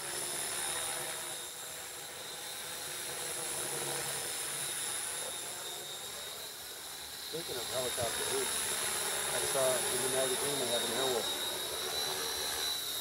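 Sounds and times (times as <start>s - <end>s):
model helicopter flying: 0.0s - 13.0s.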